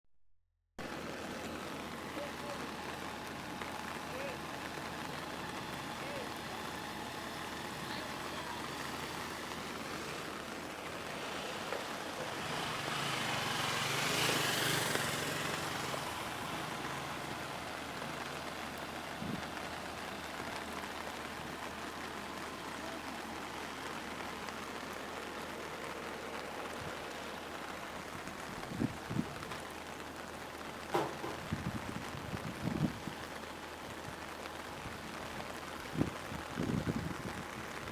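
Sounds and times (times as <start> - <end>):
heavy rain falling: 0.8 - 37.9
vehicle engine hum: 0.8 - 37.9.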